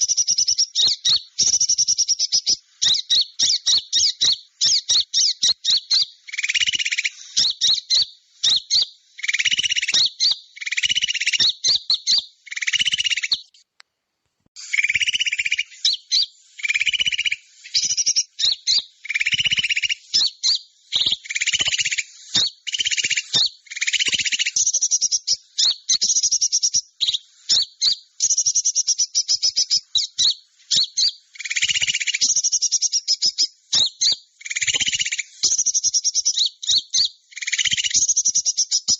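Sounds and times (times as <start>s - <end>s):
small birds chattering: 0.0s - 13.7s, 14.6s - 38.9s.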